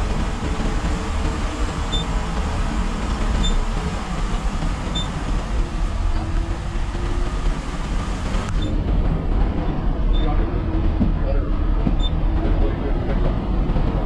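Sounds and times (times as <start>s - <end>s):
bus engine rumble: 0.0s - 14.0s
road noise: 0.0s - 14.0s.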